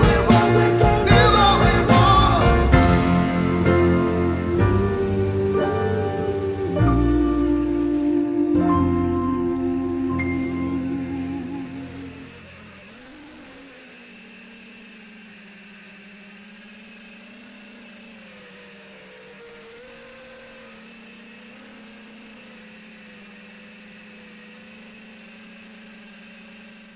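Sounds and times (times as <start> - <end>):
drone motors whirring: 0.0 - 26.9.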